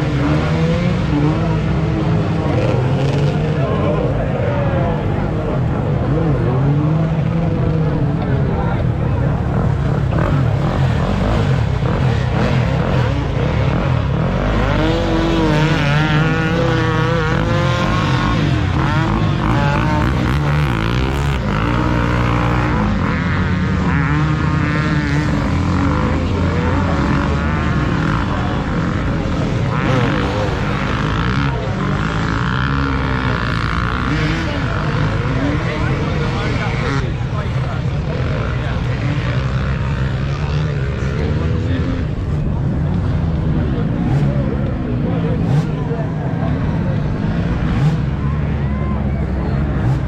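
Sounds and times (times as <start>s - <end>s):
dirt bike engines revving: 0.0s - 50.0s.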